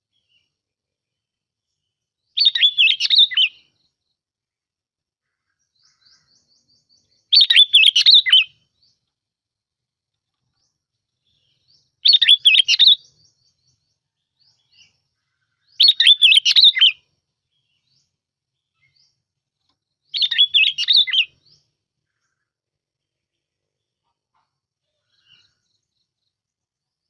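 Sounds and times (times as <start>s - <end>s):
bird warbling song: 1.6s - 4.1s, 5.2s - 9.2s, 10.3s - 27.0s.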